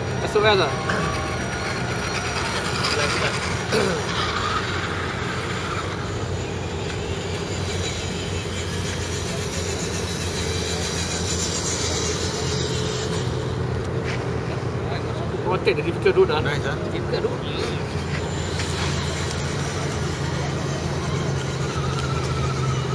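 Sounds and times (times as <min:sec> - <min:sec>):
electric motors whirring: 0:00.0 - 0:22.9
rising and falling whine: 0:00.0 - 0:22.9.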